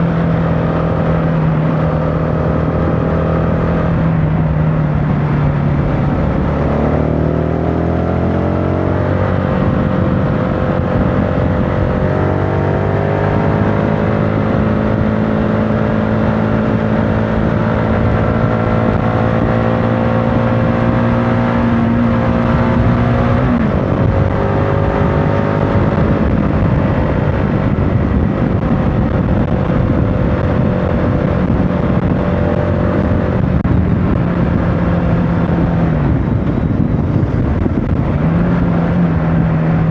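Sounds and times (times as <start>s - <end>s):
motorcycle engine running: 0.0s - 39.9s
road noise: 0.0s - 39.9s
wind rushing: 0.0s - 39.9s.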